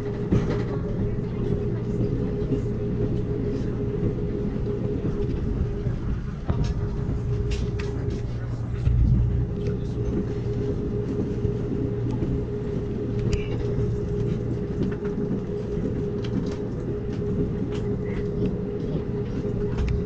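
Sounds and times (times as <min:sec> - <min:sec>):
passenger train rolling on track: 0:00.0 - 0:20.0.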